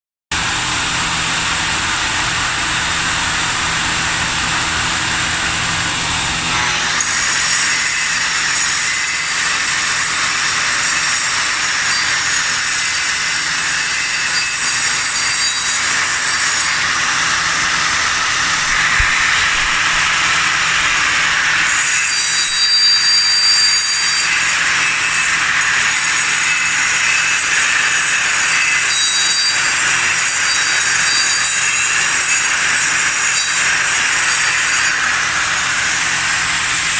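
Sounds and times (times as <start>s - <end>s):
angle grinder grinding concrete: 0.4s - 36.9s.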